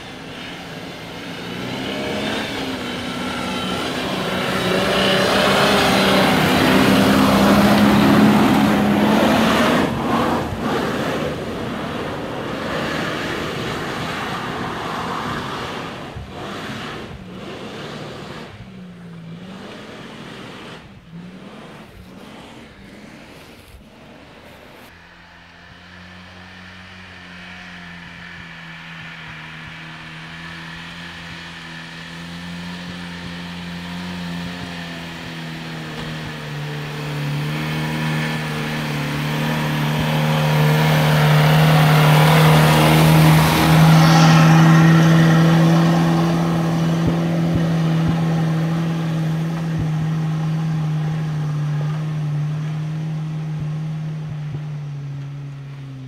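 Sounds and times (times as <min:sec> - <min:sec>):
suv engine pulling uphill: 0:00.0 - 0:56.0.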